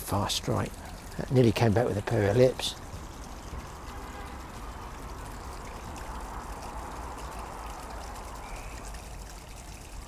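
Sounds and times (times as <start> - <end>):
stream water trickling: 0.0 - 10.0.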